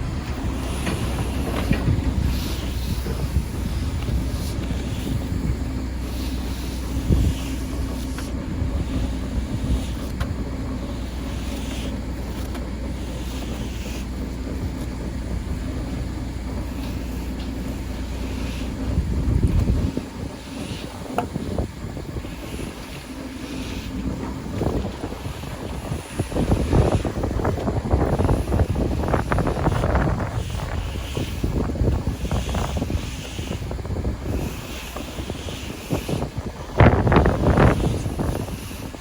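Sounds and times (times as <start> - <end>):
engine running: 0.0 - 39.0
wind buffeting microphone: 0.0 - 39.0.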